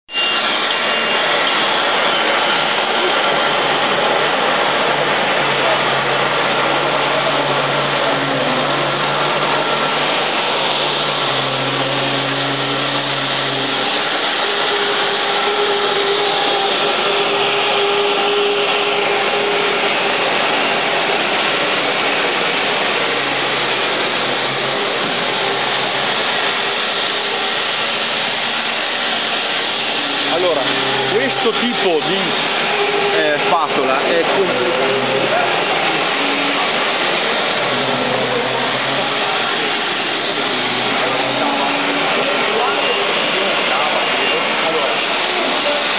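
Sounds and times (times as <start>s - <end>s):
floor scrubber motors whirring: 0.1s - 45.9s
low hums: 0.7s - 45.9s.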